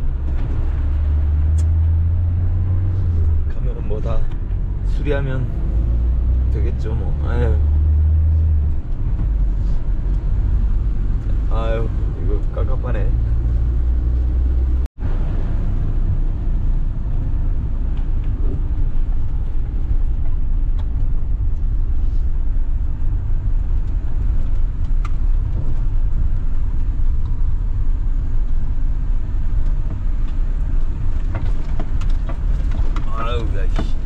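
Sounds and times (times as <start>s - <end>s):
van engine and tyres rumbling: 0.0s - 34.0s.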